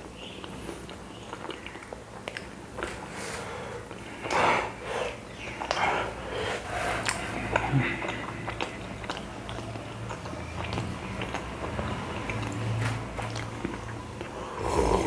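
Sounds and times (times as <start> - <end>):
man chewing flatbread: 0.0 - 15.0.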